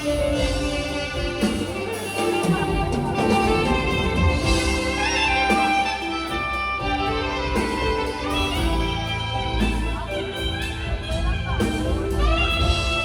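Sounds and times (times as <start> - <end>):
saxophone melody notes: 0.0 - 13.0
sustained bass notes: 0.0 - 13.0.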